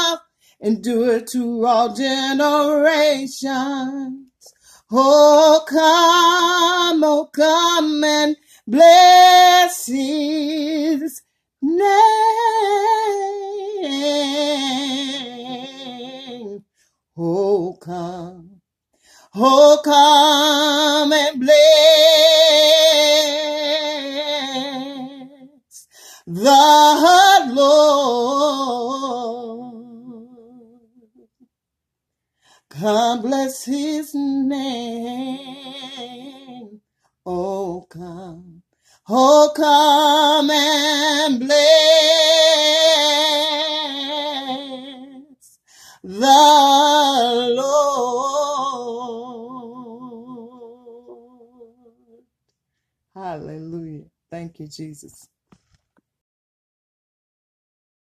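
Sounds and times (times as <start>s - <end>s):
woman singing a hymn: 0.0s - 18.6s, 19.3s - 30.8s, 32.7s - 52.2s.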